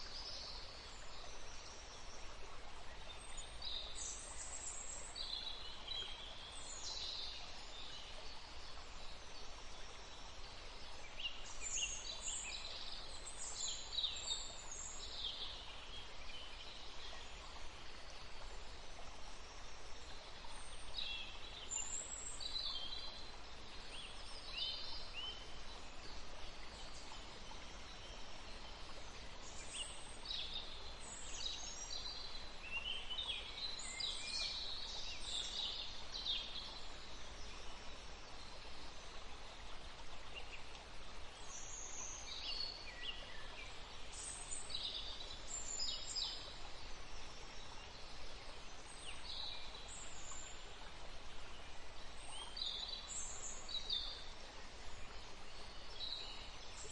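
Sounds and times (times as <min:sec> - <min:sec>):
faint background hiss: 0:00.0 - 0:56.9.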